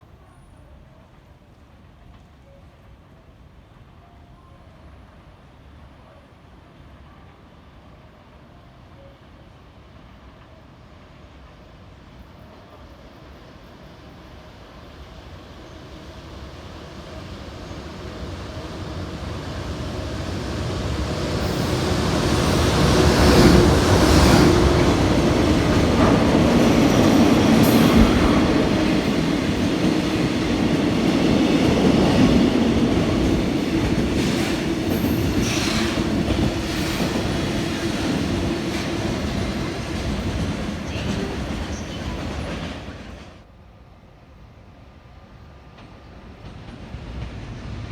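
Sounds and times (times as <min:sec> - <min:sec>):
freight train rumble: 0:00.0 - 0:47.9.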